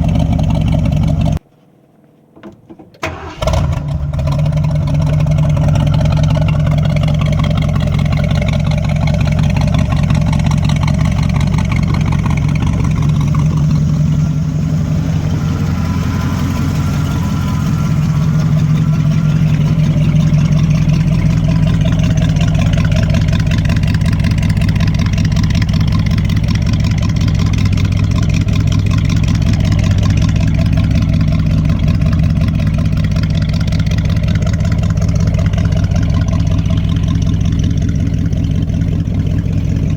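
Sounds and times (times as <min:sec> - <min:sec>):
vee eight engine idling: 0:00.0 - 0:01.4, 0:03.0 - 0:39.9.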